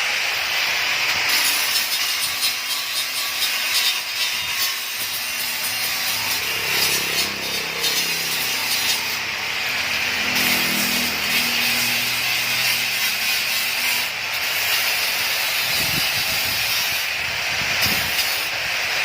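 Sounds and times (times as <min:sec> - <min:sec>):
lawn mower engine buzzing: 0:00.0 - 0:19.0.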